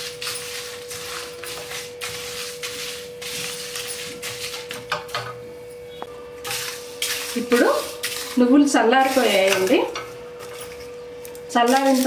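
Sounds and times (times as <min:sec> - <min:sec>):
spatula scraping seeds in pan: 0:00.0 - 0:04.8, 0:06.4 - 0:10.8, 0:11.5 - 0:12.0.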